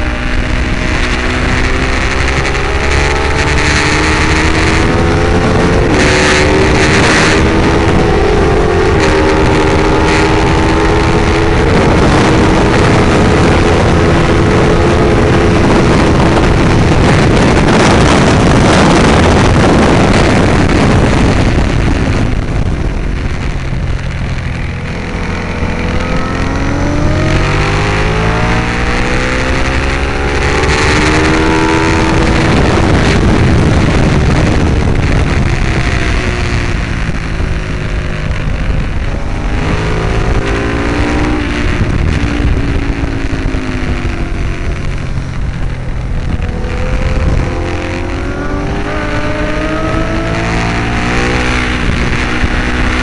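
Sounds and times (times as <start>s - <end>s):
gear upshifts: 0.0s - 53.0s
motorcycle engine revving: 0.0s - 53.0s
rush of noise at speed: 0.0s - 53.0s.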